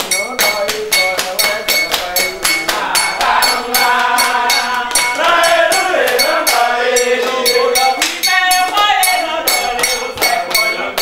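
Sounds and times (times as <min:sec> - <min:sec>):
metallic percussion beat: 0:00.0 - 0:11.0
voices singing a chant: 0:00.0 - 0:11.0.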